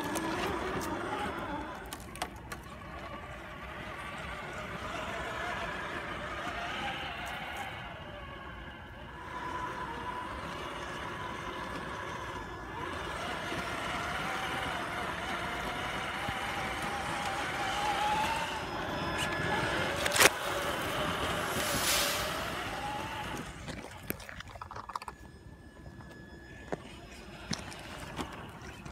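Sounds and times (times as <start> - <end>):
toy car motor and gears whining: 0.0 - 28.9.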